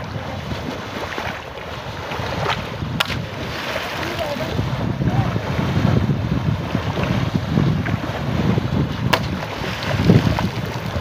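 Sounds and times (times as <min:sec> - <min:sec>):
splashing in shallow water: 0:00.0 - 0:11.0.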